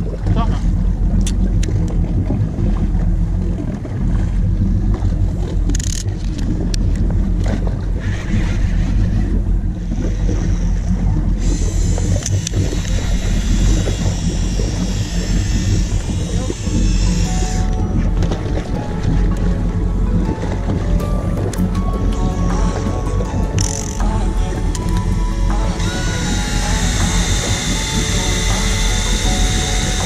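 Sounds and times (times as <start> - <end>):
boat engine at low revs: 0.0 - 30.0
sea noise: 0.0 - 30.0.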